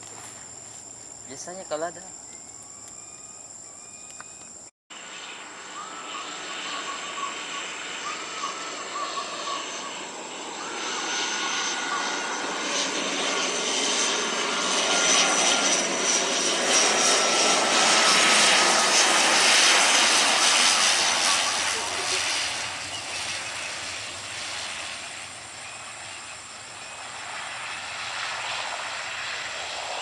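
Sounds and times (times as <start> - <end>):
jet airliner engines approaching: 0.0 - 30.0.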